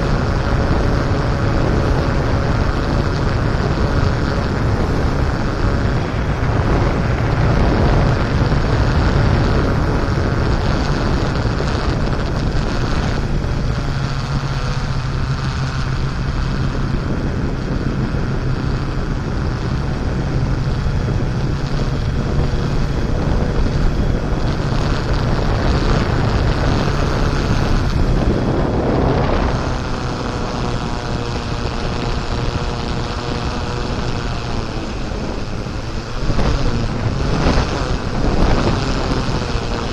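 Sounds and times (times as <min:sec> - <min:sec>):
off-road vehicle engine revving: 0:00.0 - 0:39.9
rough driving noise: 0:00.0 - 0:39.9
wind buffeting microphone: 0:00.0 - 0:39.9.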